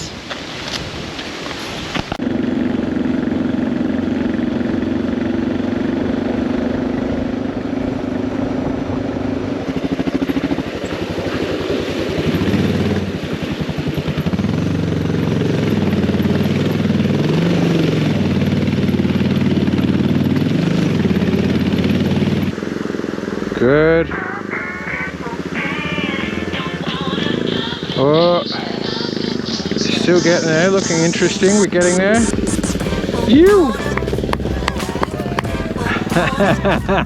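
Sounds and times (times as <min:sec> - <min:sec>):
motorcycle engine running: 0:01.6 - 0:37.0.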